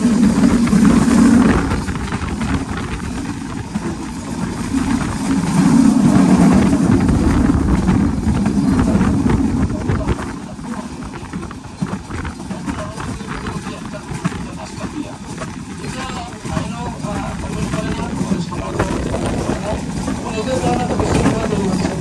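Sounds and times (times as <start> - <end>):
train wheels rumbling on rail: 0.0 - 22.0
wind rush: 0.0 - 22.0.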